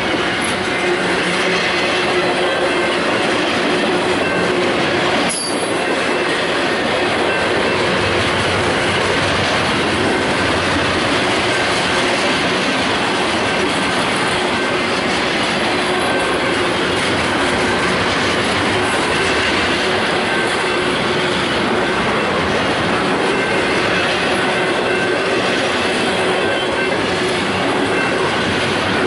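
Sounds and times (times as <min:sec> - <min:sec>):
train wheels running on rails: 0:00.0 - 0:29.0.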